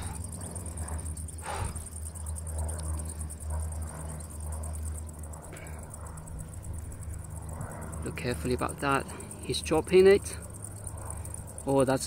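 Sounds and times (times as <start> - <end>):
insects chirring: 0.0 - 12.0
low steady hum: 0.0 - 12.0.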